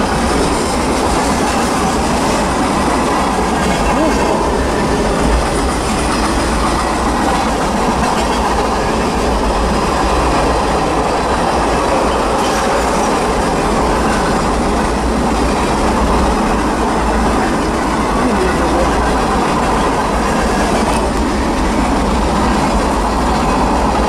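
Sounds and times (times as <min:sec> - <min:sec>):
freight train wheels on rail: 0:00.0 - 0:24.0.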